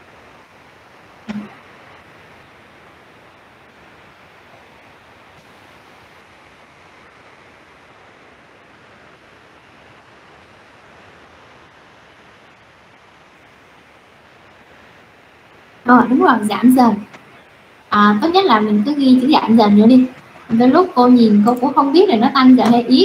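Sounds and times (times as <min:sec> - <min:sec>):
microphone hiss: 0:00.0 - 0:23.0.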